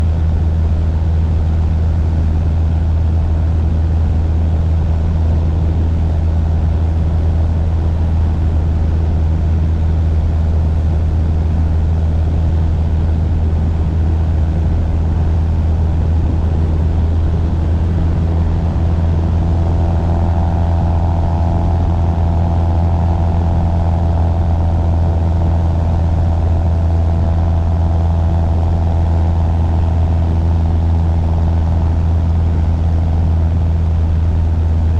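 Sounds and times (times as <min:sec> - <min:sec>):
aircraft engine drone: 0:00.0 - 0:34.9
high steady hum: 0:00.0 - 0:34.9.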